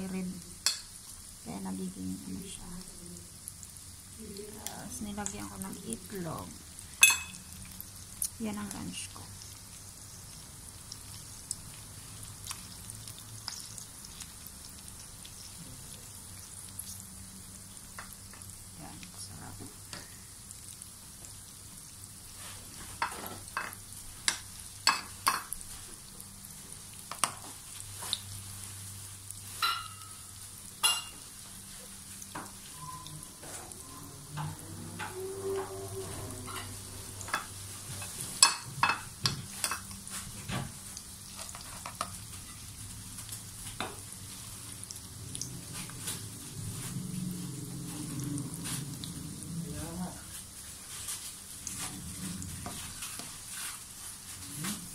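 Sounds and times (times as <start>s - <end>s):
patties sizzling in oil: 0.0s - 54.9s.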